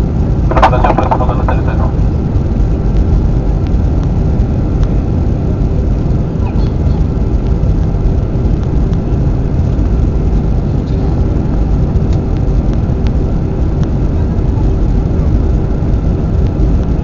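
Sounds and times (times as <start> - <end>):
airliner engines rumbling: 0.0 - 17.0
faint steady hum: 0.0 - 17.0.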